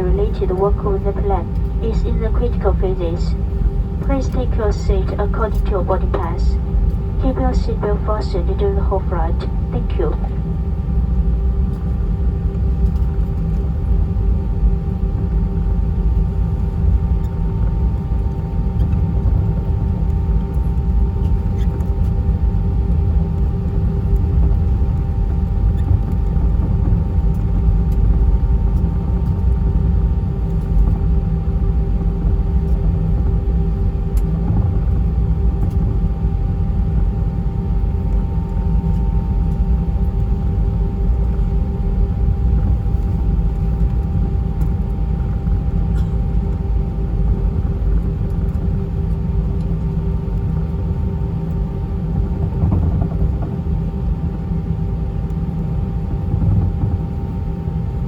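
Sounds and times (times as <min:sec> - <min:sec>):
jet engines idling rumble: 0:00.0 - 0:58.0.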